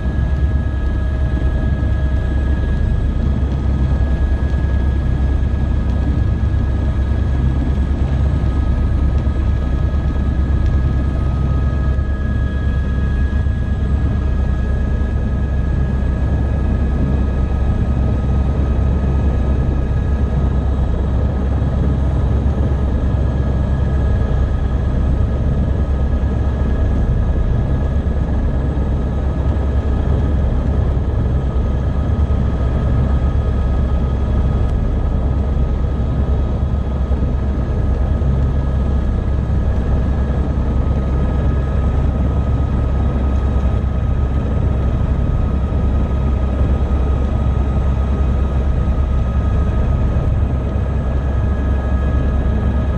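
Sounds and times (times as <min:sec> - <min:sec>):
helicopter deep rumble: 0:00.0 - 0:52.9
helicopter high whine: 0:00.0 - 0:52.9.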